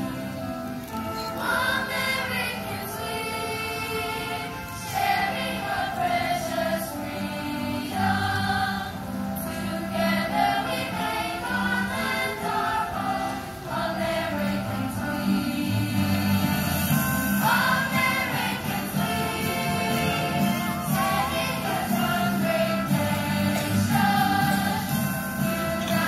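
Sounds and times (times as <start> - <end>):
children's chorus singing: 0.0 - 26.0
low held accompaniment notes: 0.0 - 26.0.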